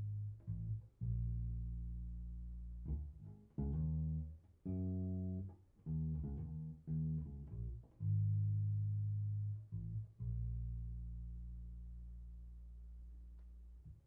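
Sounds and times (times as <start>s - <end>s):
electric bass plucked notes: 0.0s - 14.0s.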